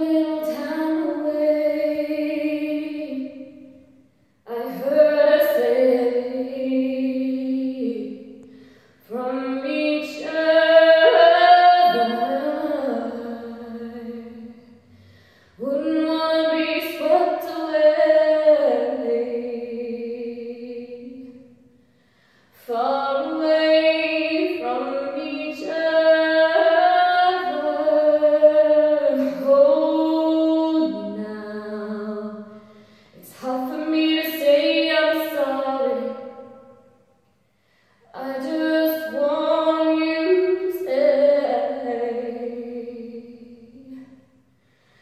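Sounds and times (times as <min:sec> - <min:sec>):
woman singing unaccompanied: 0:00.0 - 0:03.6, 0:04.5 - 0:08.4, 0:09.0 - 0:14.7, 0:15.6 - 0:21.4, 0:22.6 - 0:32.5, 0:33.2 - 0:36.4, 0:38.1 - 0:44.0.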